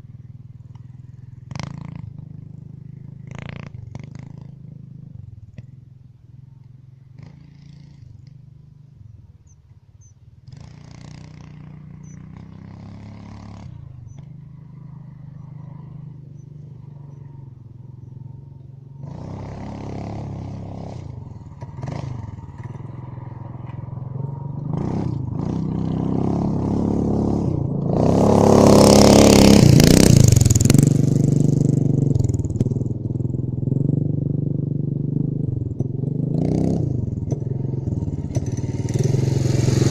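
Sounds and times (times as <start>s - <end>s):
mini bike engine revving: 0.9s - 5.1s, 7.1s - 8.5s, 10.4s - 39.9s.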